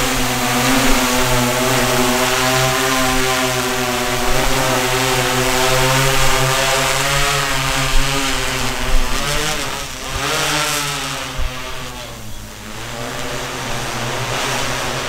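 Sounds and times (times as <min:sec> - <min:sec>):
drone propellers buzzing hum: 0:00.0 - 0:15.0.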